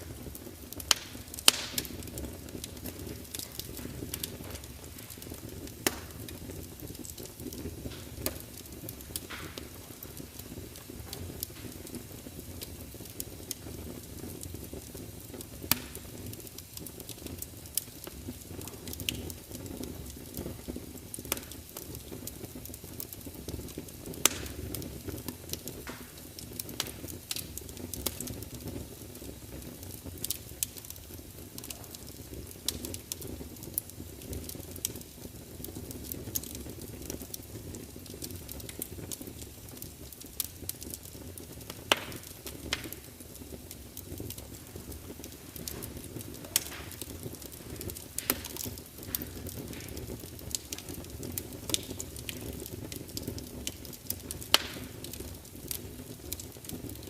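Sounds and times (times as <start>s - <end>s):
logs crackling and popping: 0.0s - 57.0s
wood fire rumbling and hissing: 0.0s - 57.0s.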